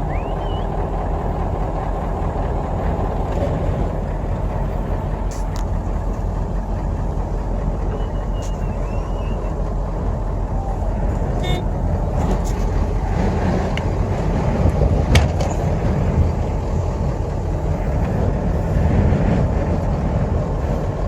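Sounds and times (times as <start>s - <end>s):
sandstorm wind rumble: 0.0s - 21.0s
vehicle noise: 0.0s - 21.0s.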